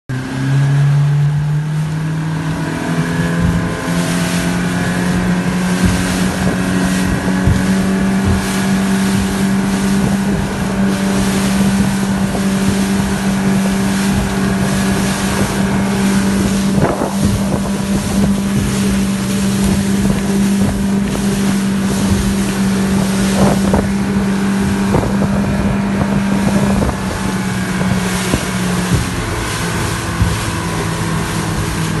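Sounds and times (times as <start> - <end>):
outboard motor running: 0.1 - 32.0
wind and water rushing: 0.1 - 32.0.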